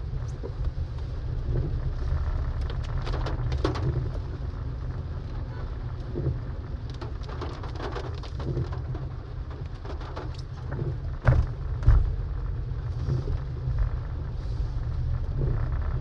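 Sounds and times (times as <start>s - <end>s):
low road rumble: 0.0s - 16.0s
rain hitting car windshield and roof: 0.0s - 16.0s.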